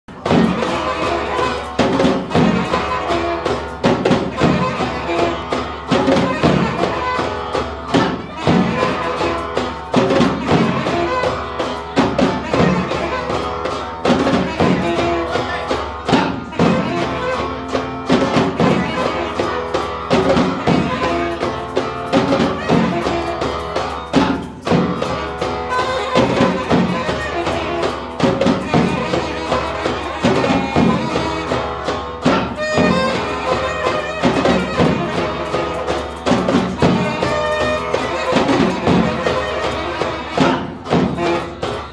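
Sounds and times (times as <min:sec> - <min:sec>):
bass drum and djembes beat: 0:00.1 - 0:41.9
saxophone notes: 0:00.1 - 0:41.9
strummed guitar: 0:00.1 - 0:41.9.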